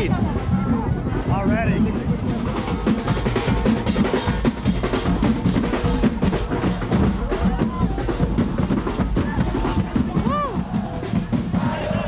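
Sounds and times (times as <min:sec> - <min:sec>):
loud drum-heavy music: 0:00.0 - 0:12.0.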